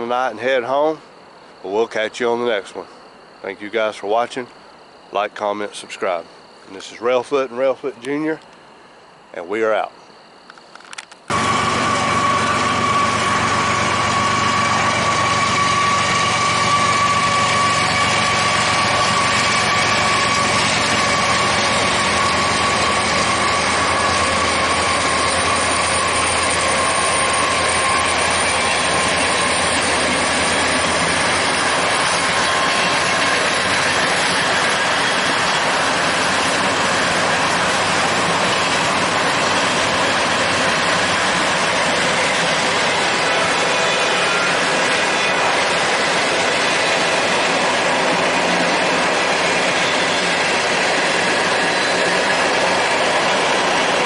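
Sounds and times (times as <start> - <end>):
freight train wheels roaring: 0.0 - 54.0
thin steady whine: 0.0 - 54.0.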